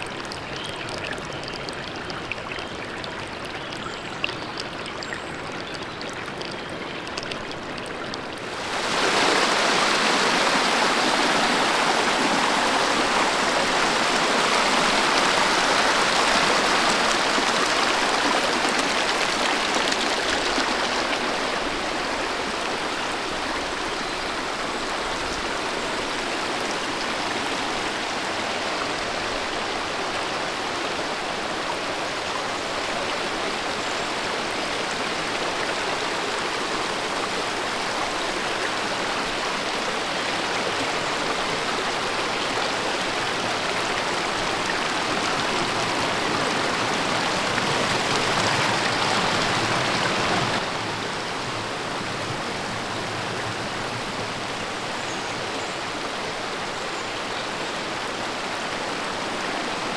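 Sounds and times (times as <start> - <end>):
cascading mountain water: 0.0 - 59.9.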